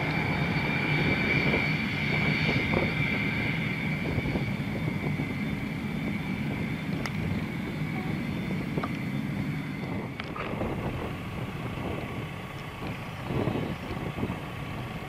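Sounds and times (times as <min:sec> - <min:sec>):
jet engines whining and rumbling: 0:00.0 - 0:15.0.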